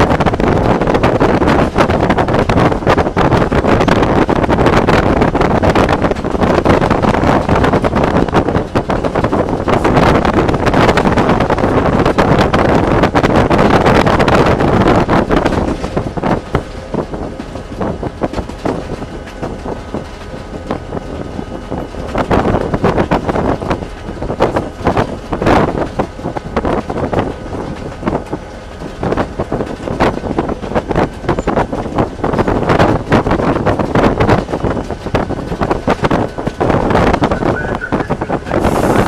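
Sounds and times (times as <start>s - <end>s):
running gear knocking on track: 0.0s - 38.6s
diesel locomotive engine drone: 0.0s - 39.0s
wind buffeting microphone: 0.0s - 39.0s.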